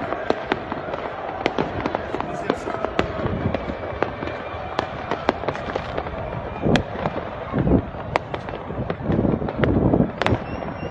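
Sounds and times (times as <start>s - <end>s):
distant firecrackers popping: 0.0s - 10.9s.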